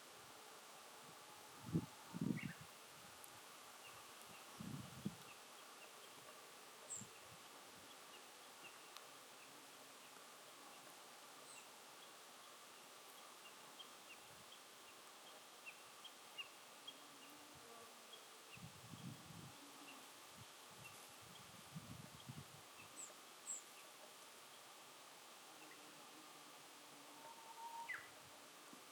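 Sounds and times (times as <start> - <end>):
soft steady hiss: 0.0 - 28.9.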